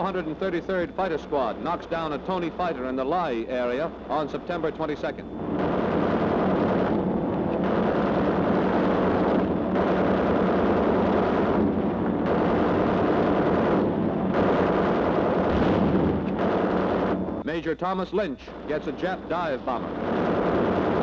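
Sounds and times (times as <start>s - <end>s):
gunfire and blasts roar: 0.0s - 17.4s, 18.6s - 21.0s.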